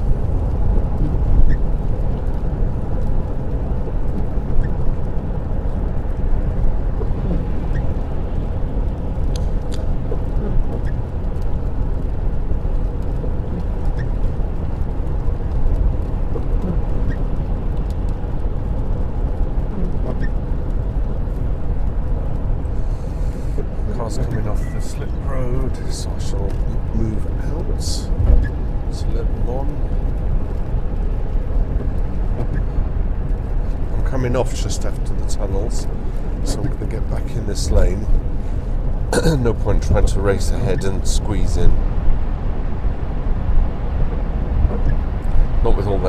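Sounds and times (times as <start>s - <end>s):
car road noise rumble: 0.0s - 46.0s.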